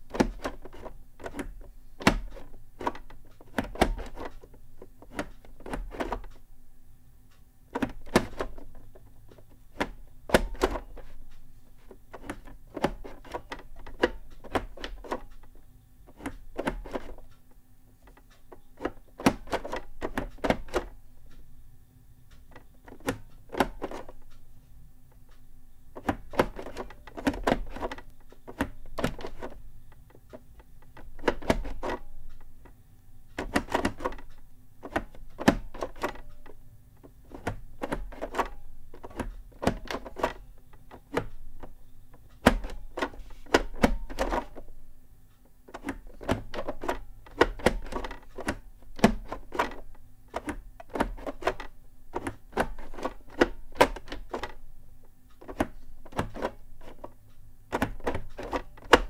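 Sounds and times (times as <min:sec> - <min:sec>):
keyboard clicks and knocks: 0:00.0 - 0:06.4, 0:07.7 - 0:21.4, 0:22.3 - 0:24.4, 0:25.1 - 0:44.8, 0:45.4 - 0:59.0.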